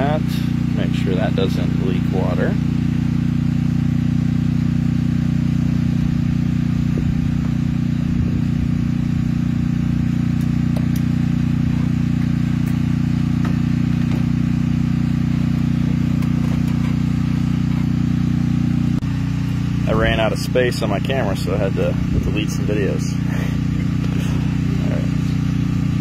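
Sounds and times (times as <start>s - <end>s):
generator droning: 0.0s - 26.0s.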